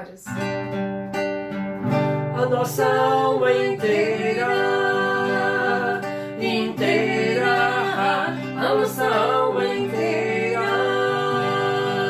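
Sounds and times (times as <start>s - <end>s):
acoustic guitar: 0.0s - 12.0s
person singing: 2.2s - 12.0s.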